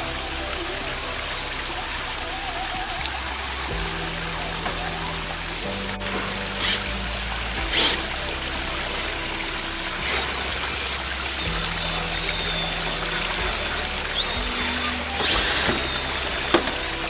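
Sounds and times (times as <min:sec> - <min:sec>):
creek water trickling over rocks: 0:00.0 - 0:17.0
music of held low chords: 0:00.0 - 0:17.0.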